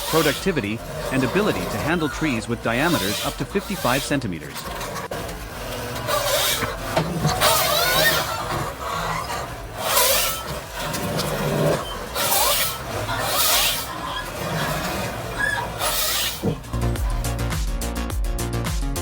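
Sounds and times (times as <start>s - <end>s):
hydraulic hissing bursts: 0.0s - 17.3s
machine whine: 0.0s - 17.5s.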